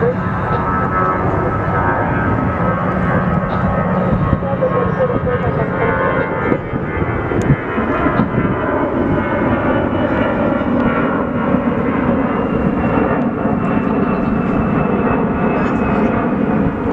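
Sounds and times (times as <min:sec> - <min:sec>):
jet engines running: 0:00.0 - 0:16.9.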